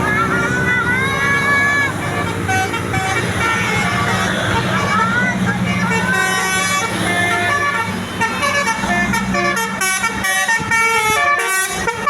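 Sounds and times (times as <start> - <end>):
multi-trumpet bus horn tune: 0.4 - 12.0.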